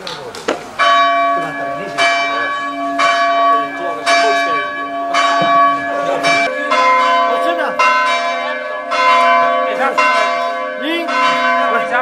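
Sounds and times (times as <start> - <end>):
church bell ringing: 0.8 - 12.0.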